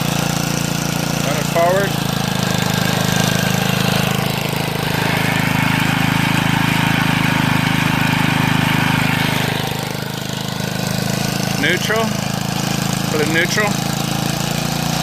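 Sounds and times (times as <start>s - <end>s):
tiller engine running: 0.0s - 15.0s.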